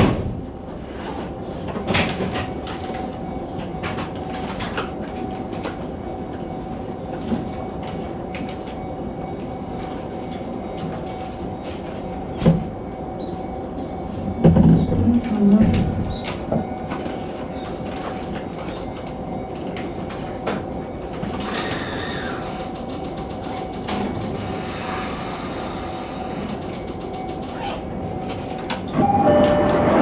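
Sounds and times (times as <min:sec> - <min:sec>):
train wheels on rail: 0:00.0 - 0:30.0.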